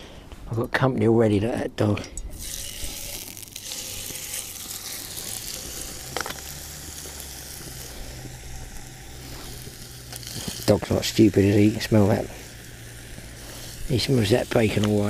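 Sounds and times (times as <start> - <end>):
bacon sizzling in frying pan: 2.3 - 15.0.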